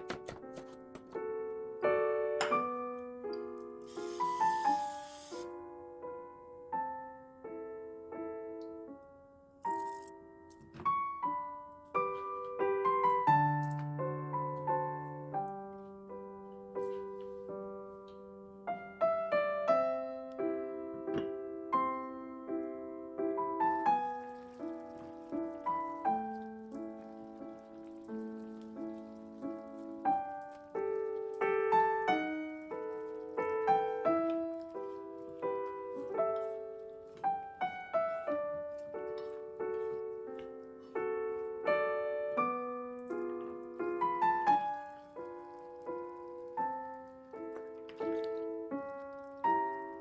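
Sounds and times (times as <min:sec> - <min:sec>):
gentle solo piano melody: 0:00.0 - 0:50.0.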